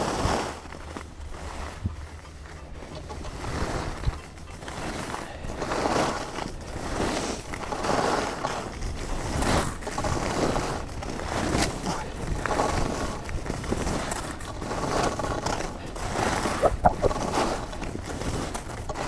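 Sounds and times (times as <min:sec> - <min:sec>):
skis scraping on snow: 0:00.0 - 0:19.0.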